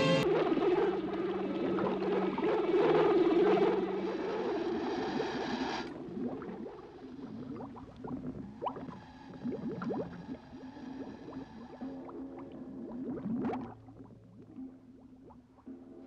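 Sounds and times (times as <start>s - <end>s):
air bubbles gurgling underwater: 0.2s - 16.0s.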